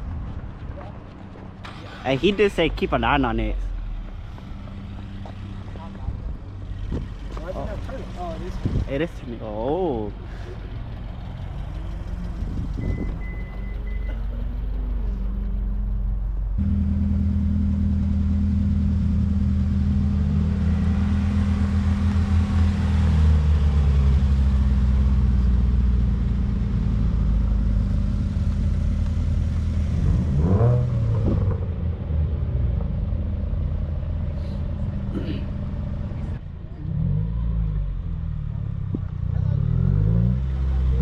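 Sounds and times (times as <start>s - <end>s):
car engine rumbling: 0.0s - 41.0s.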